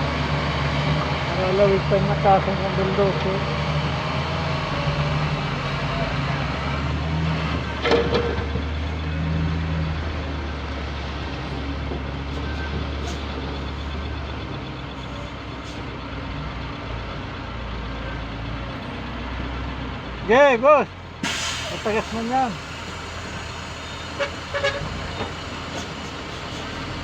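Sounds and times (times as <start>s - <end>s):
heavy diesel engines running: 0.0s - 27.0s.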